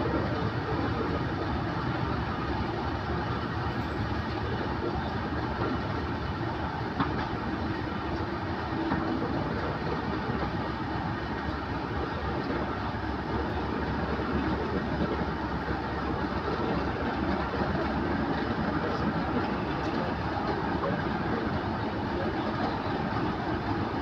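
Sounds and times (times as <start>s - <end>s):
diesel locomotive engine running: 0.0s - 24.0s
wheels rumbling on rail: 0.0s - 24.0s.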